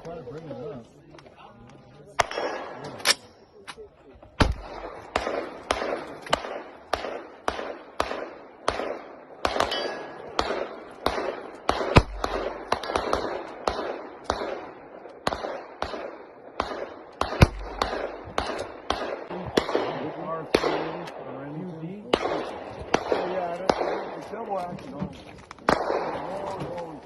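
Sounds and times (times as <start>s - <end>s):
gunshots ringing: 2.2s - 3.3s, 4.4s - 24.8s, 25.6s - 26.8s.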